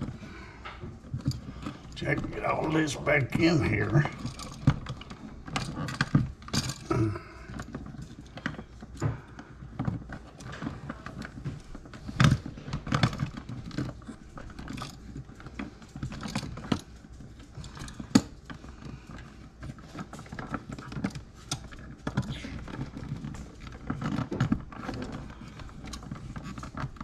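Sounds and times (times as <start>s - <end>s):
clicks and rattles of wiring hardware: 0.0s - 27.0s.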